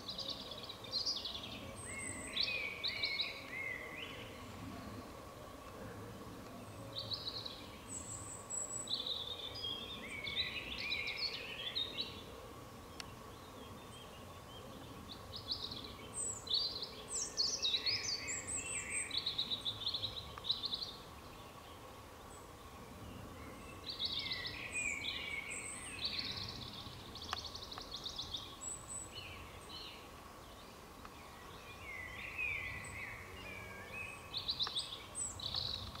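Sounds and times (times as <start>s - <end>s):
faint steady tone: 0.0s - 36.0s
songbirds warbling: 0.0s - 36.0s.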